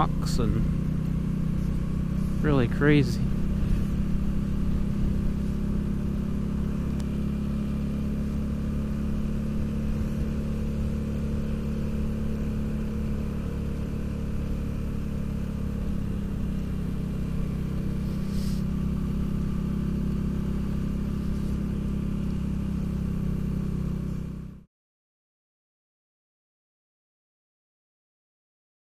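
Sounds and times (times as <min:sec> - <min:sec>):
motorcycle engine running: 0:00.0 - 0:24.7.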